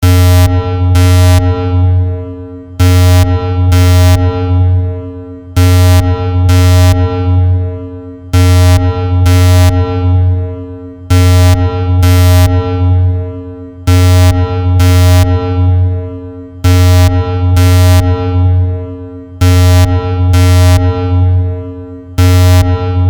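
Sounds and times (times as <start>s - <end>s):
harsh electronic alarm blasts: 0.0s - 23.0s.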